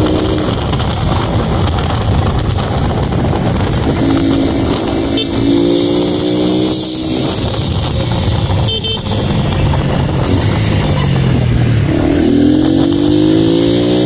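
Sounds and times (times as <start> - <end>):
motorbike engine running: 0.0 - 14.0
wind rush on microphone: 0.0 - 14.0.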